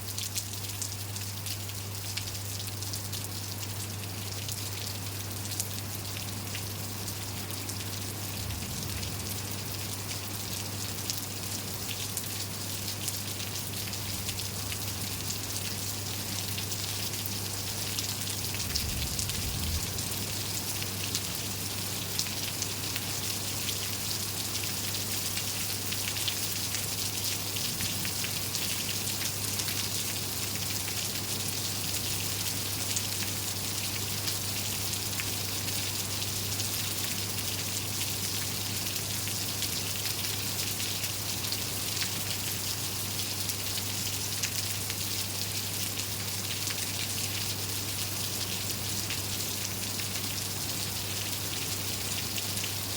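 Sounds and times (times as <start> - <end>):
raindrops striking close by: 0.0 - 52.9
steady rain falling: 0.0 - 52.9.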